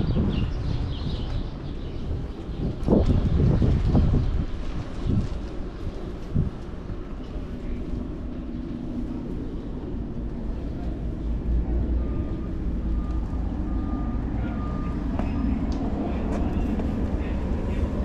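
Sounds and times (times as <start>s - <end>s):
city traffic rumble: 0.0s - 18.0s
wind noise: 0.0s - 18.0s.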